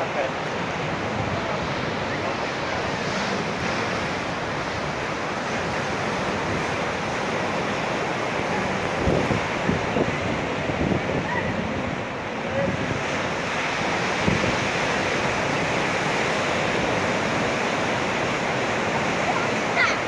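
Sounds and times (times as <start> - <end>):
waves washing up a sandy beach: 0.0 - 20.0
wind gusting on microphone: 0.0 - 20.0.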